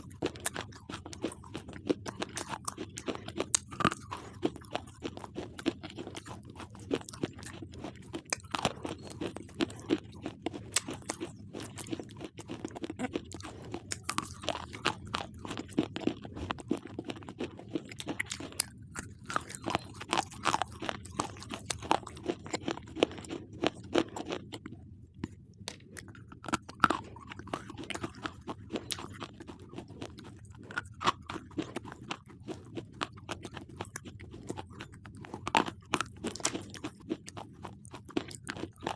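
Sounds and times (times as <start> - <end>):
pencils being chewed crunching: 0.0 - 38.9.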